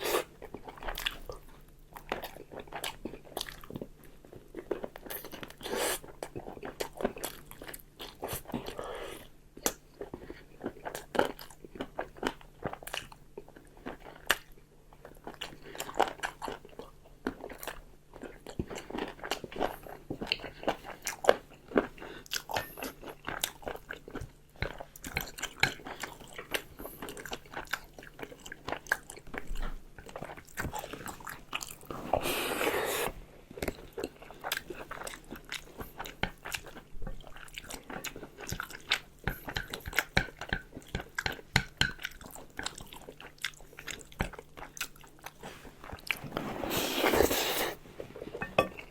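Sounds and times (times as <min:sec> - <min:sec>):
person chewing and crunching: 0:00.0 - 0:48.9.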